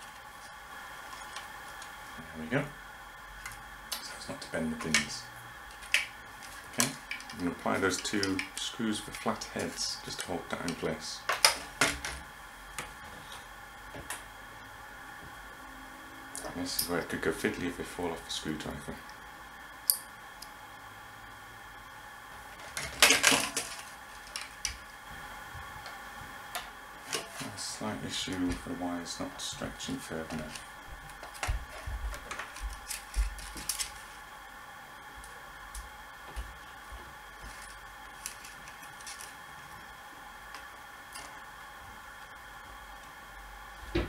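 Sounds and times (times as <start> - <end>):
background hum and hiss: 0.0 - 44.0.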